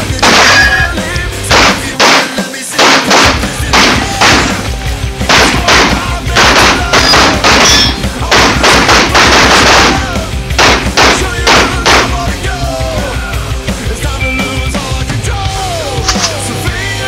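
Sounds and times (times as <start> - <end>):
bass line: 0.0 - 2.0, 3.2 - 17.0
heavy drum beat: 0.0 - 17.0
loud rock music: 0.0 - 17.0.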